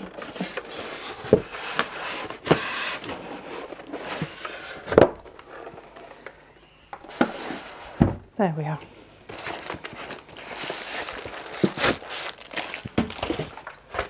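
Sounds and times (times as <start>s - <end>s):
packaging rustling and scraping: 0.0s - 8.1s, 9.2s - 14.0s.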